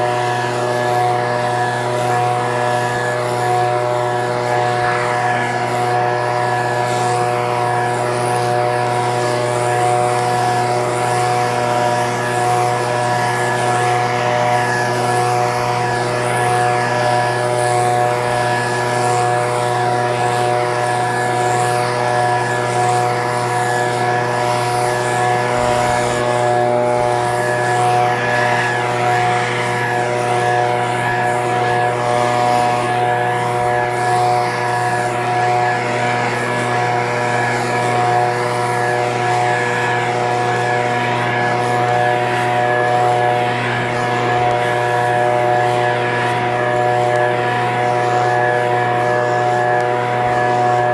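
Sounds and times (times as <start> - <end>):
leaf blower engine running: 0.0 - 50.9.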